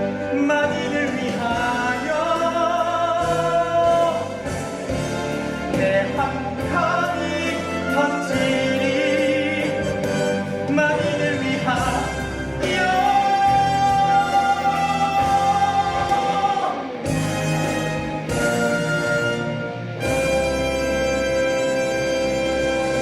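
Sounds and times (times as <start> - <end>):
instrumental accompaniment: 0.0 - 23.0
voices singing with vibrato: 0.0 - 23.0.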